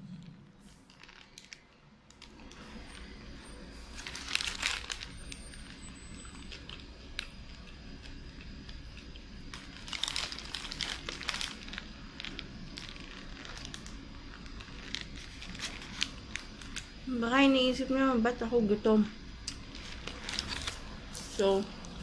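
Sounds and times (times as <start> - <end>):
paper wrapper crinkling: 0.6 - 17.0, 19.5 - 22.0.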